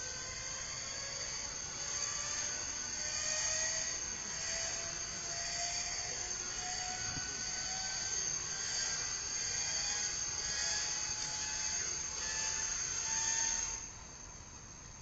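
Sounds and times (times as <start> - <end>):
inertia starter whine: 0.0 - 15.0
steady hiss: 0.0 - 15.0.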